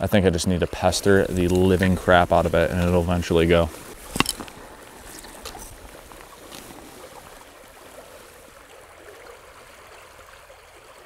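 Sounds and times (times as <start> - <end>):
river current running: 0.0 - 11.0.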